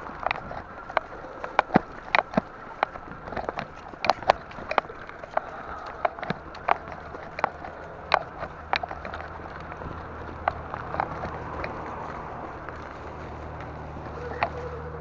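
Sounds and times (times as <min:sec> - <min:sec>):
bicycle rattling over bumps: 0:00.0 - 0:15.0
low hum and rushing noise: 0:00.0 - 0:15.0.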